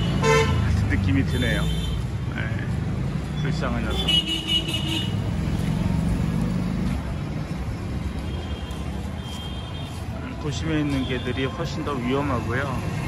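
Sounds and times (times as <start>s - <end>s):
road traffic din: 0.0s - 13.0s
vehicle engine rumbling: 0.0s - 13.0s.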